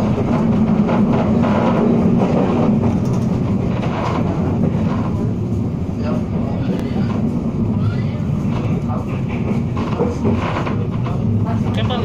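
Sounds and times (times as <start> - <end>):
train low drone: 0.0 - 12.0
wheels rumbling on track: 0.0 - 12.0.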